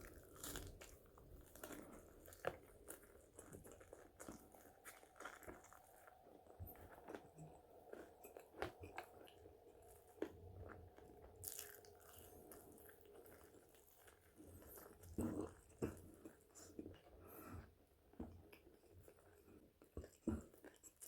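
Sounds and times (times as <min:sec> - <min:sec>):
person chewing crunchy fries: 0:00.0 - 0:21.0.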